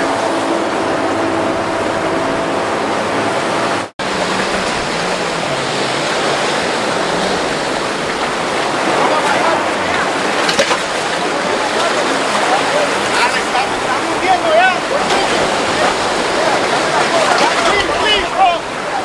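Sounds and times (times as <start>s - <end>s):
outboard motor humming: 0.0s - 19.0s
rushing water: 0.0s - 19.0s.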